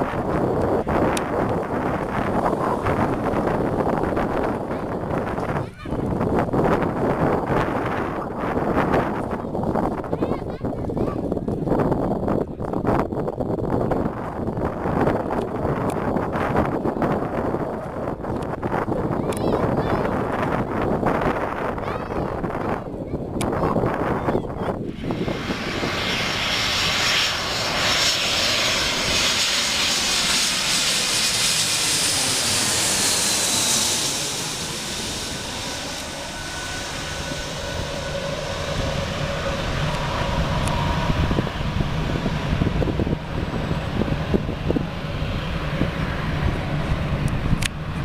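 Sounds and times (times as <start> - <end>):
jet engines passing by: 0.0 - 48.0.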